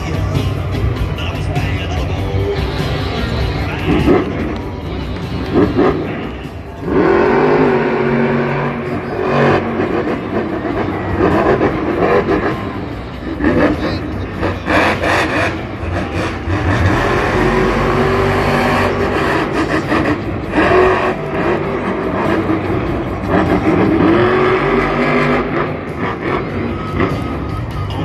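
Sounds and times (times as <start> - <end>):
monster truck engines revving: 0.0 - 28.0.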